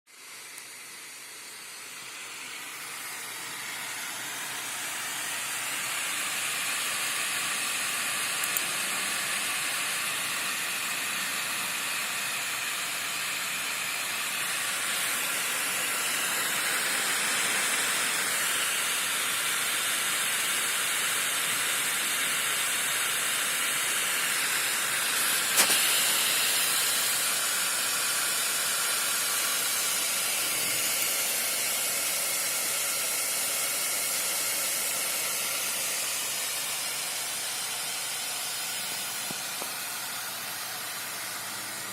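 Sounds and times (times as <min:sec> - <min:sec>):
laptop fan blowing: 0:00.1 - 0:41.9.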